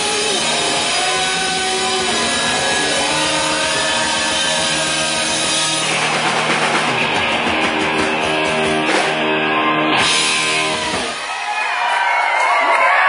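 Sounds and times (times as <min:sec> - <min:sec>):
electric guitar chords: 0:00.0 - 0:11.3
live rock band playing: 0:00.0 - 0:12.0.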